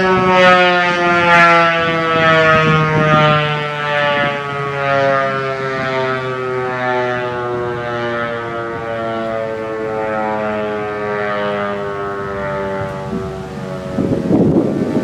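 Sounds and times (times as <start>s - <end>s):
steady warning siren tone: 0.0s - 15.0s.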